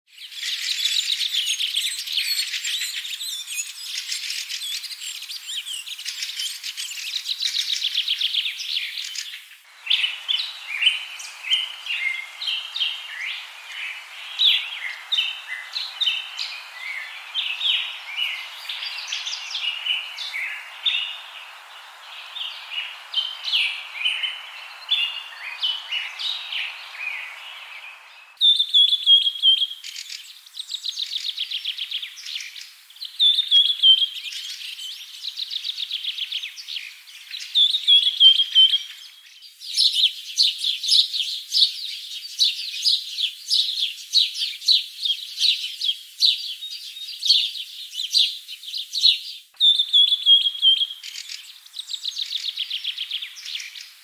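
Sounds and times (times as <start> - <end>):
songbirds chirping and trilling: 0.1 - 54.0.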